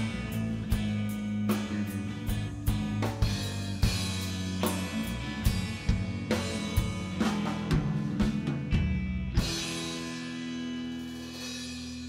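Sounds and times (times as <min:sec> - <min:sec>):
bass: 0:00.0 - 0:12.0
drum kit hitting: 0:00.0 - 0:12.0
electric guitar chords: 0:00.0 - 0:12.0.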